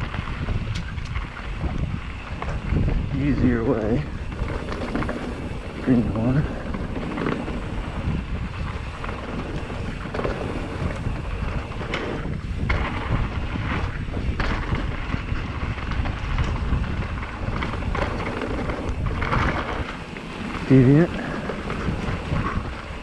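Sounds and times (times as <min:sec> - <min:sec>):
bike knocking and rattling: 0:00.0 - 0:23.0
tyres rumbling over dirt: 0:00.0 - 0:23.0
wind buffeting microphone: 0:00.0 - 0:23.0.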